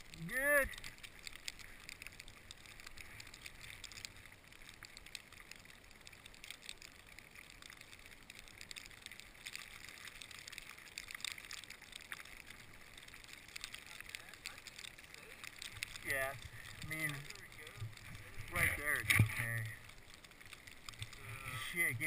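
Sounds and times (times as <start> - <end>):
skis sliding over snow: 0.0 - 22.0.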